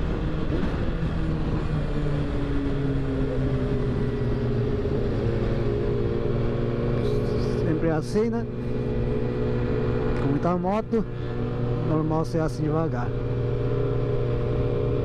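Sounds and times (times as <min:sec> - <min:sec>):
motorcycle engine at low revs: 0:00.0 - 0:15.0
road and wind noise: 0:00.0 - 0:15.0.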